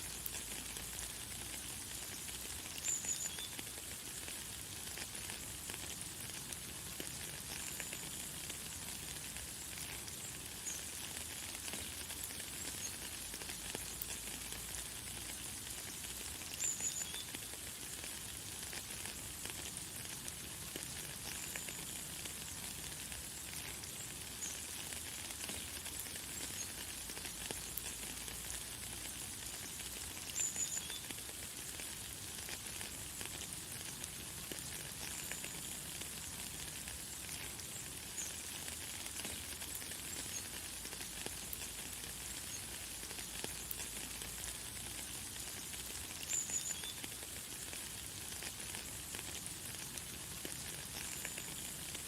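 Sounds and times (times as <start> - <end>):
light rain falling: 0.0 - 52.0.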